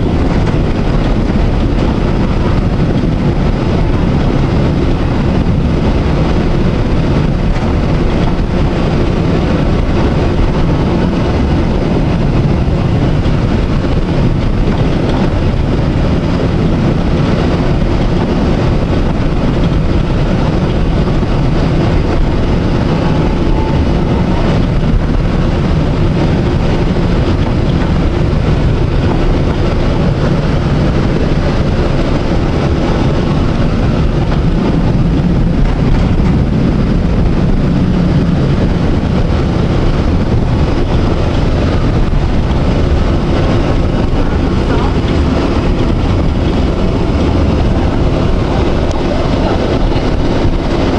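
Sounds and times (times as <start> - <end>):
electric tram running on rails: 0.0 - 50.9.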